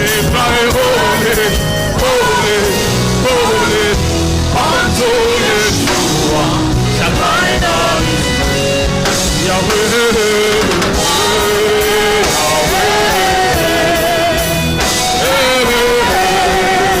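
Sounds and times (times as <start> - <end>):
band playing worship music: 0.0 - 17.0.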